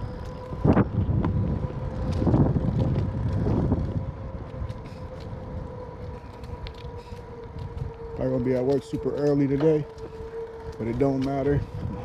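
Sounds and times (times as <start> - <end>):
bicycle rolling: 0.0 - 12.0
wind buffeting the microphone: 0.0 - 12.0.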